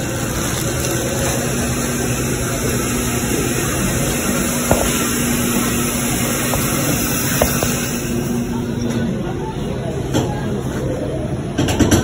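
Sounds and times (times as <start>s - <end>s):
coffee shop background hum: 0.0s - 12.0s.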